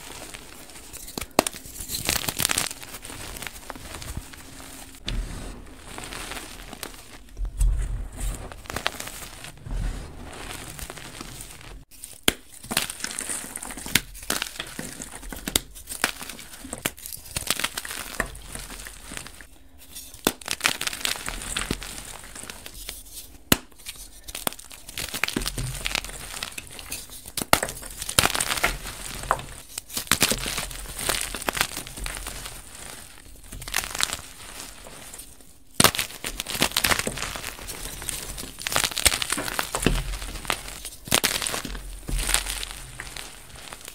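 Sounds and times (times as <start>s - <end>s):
chalk crunching by hand: 0.0s - 43.9s.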